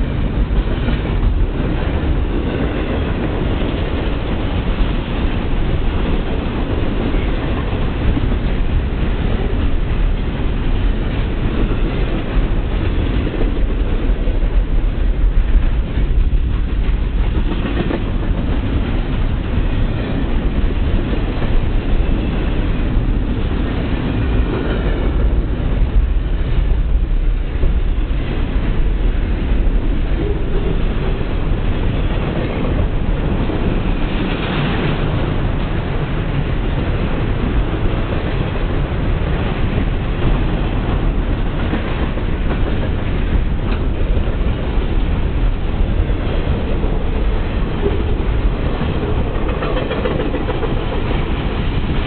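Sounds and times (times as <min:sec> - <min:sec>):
train cars rumbling past: 0:00.0 - 0:52.0
wheels clacking over rail joints: 0:00.0 - 0:52.0.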